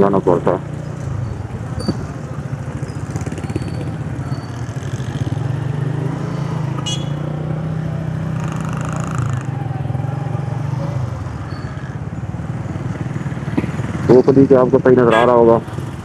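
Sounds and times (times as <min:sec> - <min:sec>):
motorcycle engine running: 0:00.2 - 0:14.2.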